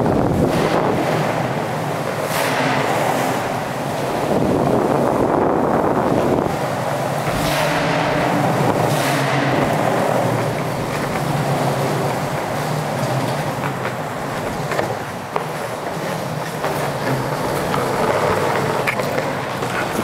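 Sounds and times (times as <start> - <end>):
longboard wheels rolling on concrete: 0.0 - 20.0.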